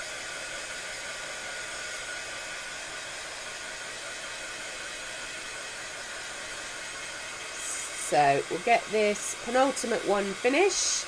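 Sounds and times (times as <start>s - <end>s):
hot-air dryer blowing: 0.0s - 11.0s.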